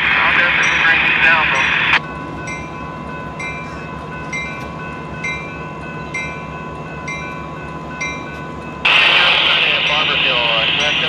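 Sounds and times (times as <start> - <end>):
diesel locomotive idling: 0.0 - 11.0
locomotive bell ringing: 0.0 - 11.0.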